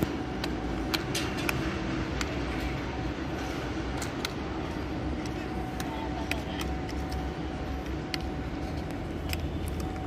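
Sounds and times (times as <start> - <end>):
worksite background noise: 0.0 - 10.0.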